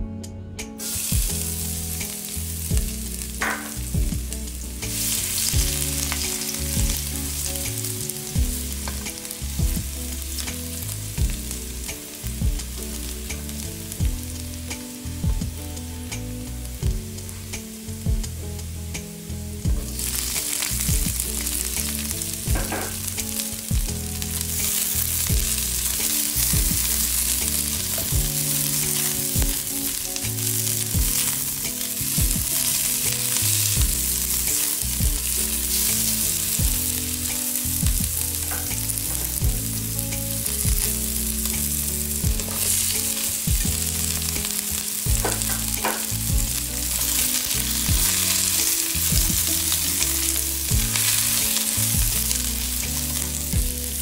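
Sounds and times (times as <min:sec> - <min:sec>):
garlic and onion sizzling in oil: 0:00.8 - 0:54.0.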